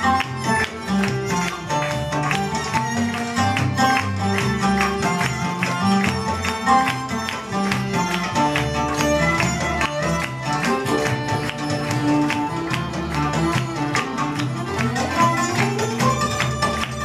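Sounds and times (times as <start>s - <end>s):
double bass: 0.0s - 17.0s
violin: 0.0s - 17.0s.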